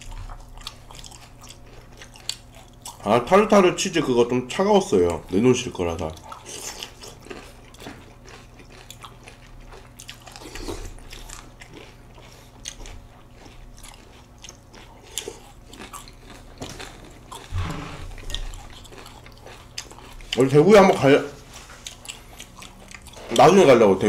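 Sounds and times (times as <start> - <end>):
chewing crunchy cereal: 0.0 - 24.0.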